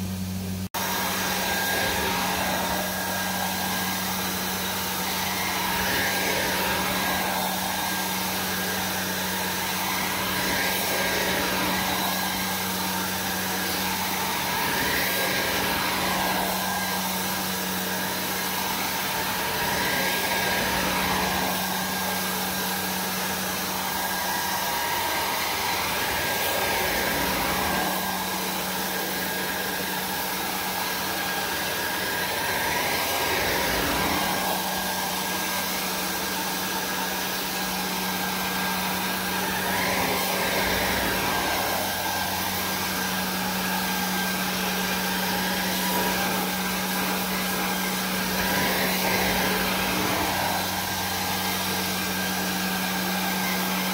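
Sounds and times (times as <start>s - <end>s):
vacuum motor humming: 0.0s - 53.9s.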